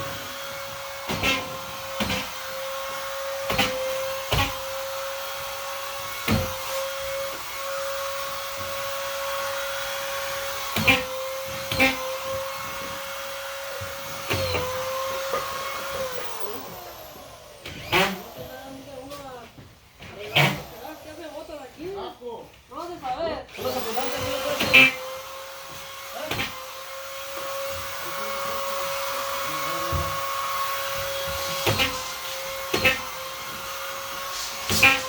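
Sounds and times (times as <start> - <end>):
vacuum cleaner running: 0.0 - 22.0, 23.5 - 35.0.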